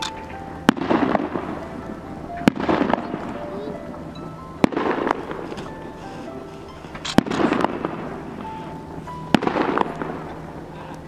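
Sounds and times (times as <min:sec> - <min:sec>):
firework shells bursting: 0:00.0 - 0:01.7, 0:02.4 - 0:03.5, 0:04.6 - 0:10.6
firework crackle: 0:00.0 - 0:11.0.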